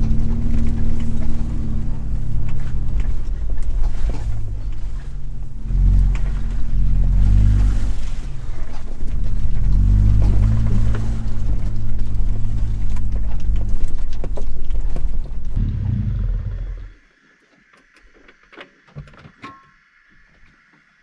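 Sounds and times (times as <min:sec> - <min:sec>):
vehicle engine growling: 0:00.0 - 0:17.0.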